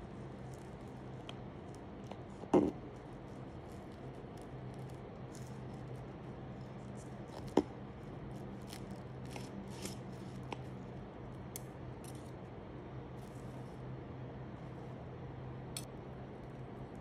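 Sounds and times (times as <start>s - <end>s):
pastry crackling and crunching: 0.0s - 15.1s.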